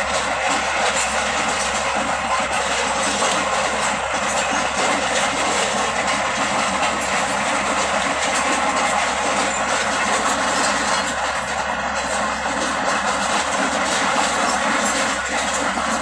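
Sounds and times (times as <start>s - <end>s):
bulldozer diesel engine running: 0.0s - 16.0s
steel tracks rattling: 0.0s - 16.0s.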